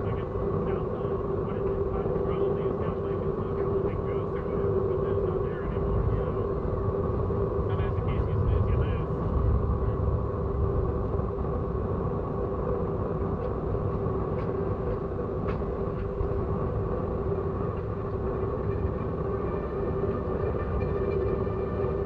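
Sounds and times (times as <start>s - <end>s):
steady hum: 0.0s - 22.0s
train rumbling: 0.0s - 22.0s.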